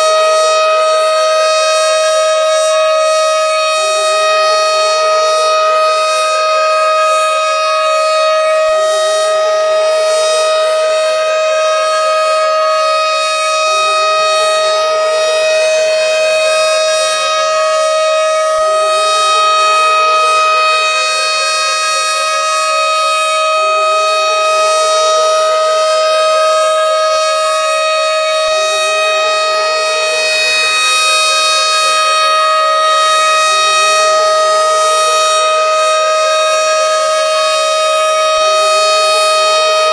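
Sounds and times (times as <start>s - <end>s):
tornado siren: 0.0s - 39.9s.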